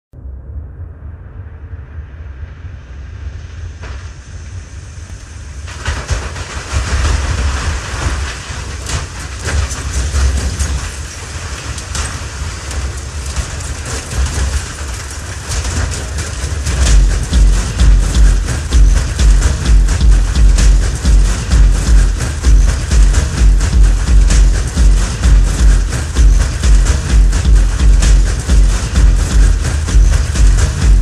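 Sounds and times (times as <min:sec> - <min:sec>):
low machine rumble: 0:00.1 - 0:31.0
machine rattling and clicking: 0:05.7 - 0:31.0.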